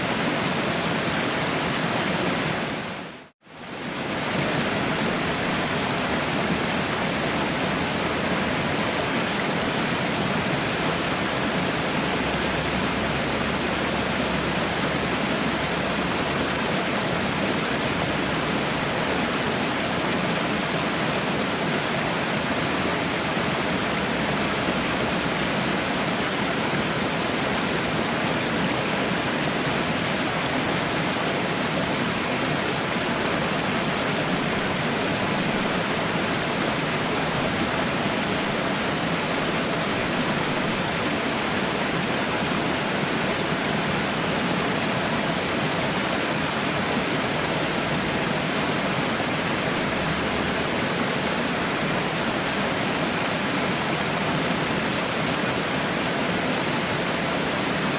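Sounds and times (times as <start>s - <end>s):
waterfall roaring: 0.0s - 57.9s.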